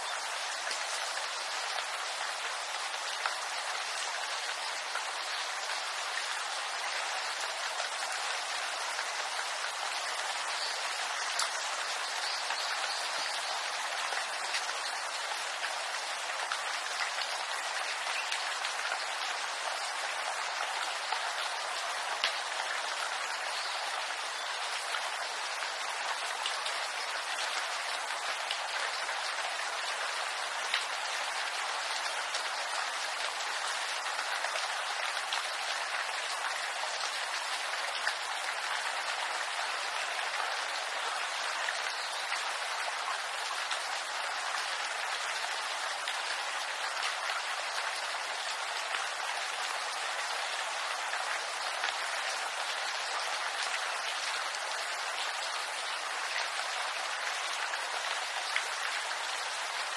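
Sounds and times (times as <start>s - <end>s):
rain on bamboo leaves: 0.0s - 59.9s.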